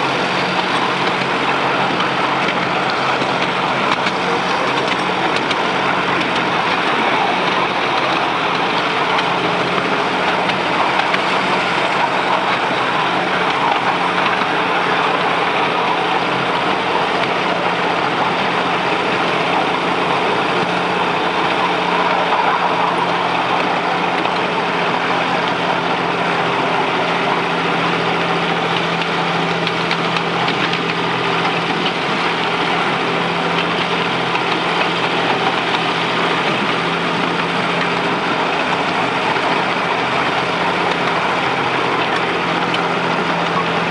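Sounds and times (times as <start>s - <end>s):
miniature locomotive engine running: 0.0s - 43.9s
wheels rolling on rails: 0.0s - 43.9s.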